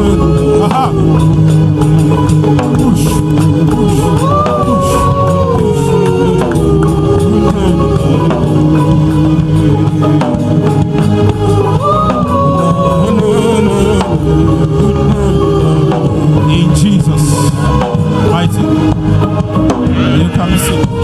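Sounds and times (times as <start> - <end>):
drums: 0.0 - 21.0
gospel singing: 0.0 - 21.0
tambourine-like percussion: 0.0 - 21.0.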